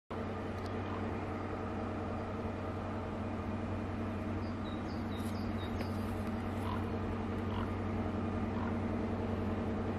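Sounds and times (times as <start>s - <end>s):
distant engine droning: 0.1s - 9.9s.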